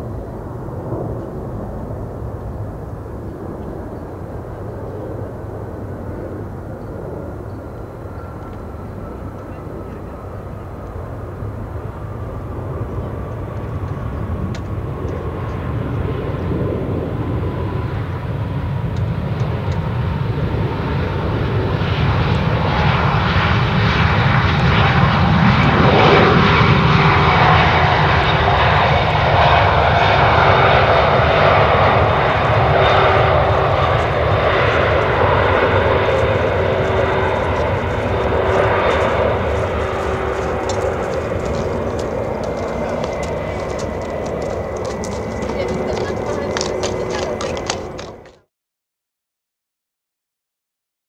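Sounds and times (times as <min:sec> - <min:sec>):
jet engines roaring and whining: 0:00.0 - 0:48.4.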